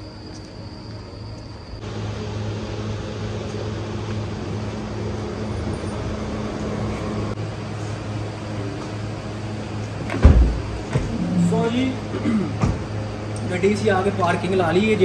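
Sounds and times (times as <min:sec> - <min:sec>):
car engine hum: 0:01.8 - 0:15.0.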